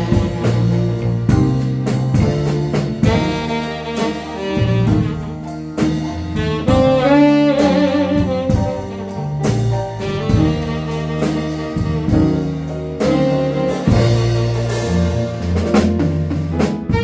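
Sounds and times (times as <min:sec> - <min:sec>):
band playing instrumental ballad: 0:00.0 - 0:17.0.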